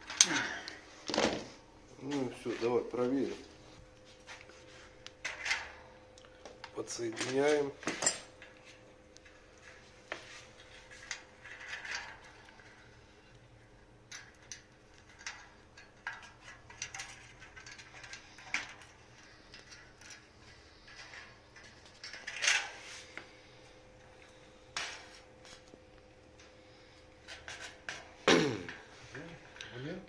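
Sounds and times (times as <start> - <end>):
wire connectors clicking and rattling: 0.0 - 3.3, 4.0 - 28.1.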